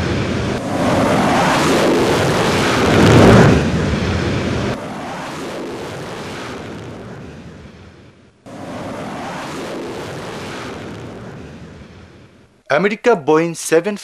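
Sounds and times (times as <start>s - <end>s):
explosion rush of noise: 0.0s - 12.5s.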